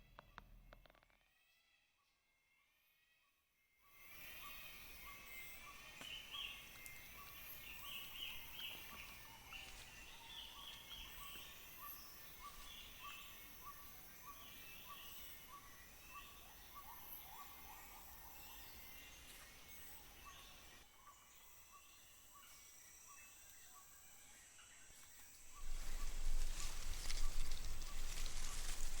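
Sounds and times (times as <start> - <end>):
high insect drone: 4.0 - 29.0.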